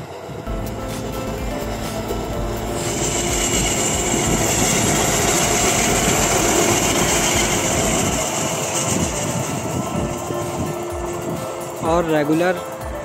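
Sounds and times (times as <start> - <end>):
rail trolley engine passing: 0.0 - 13.0.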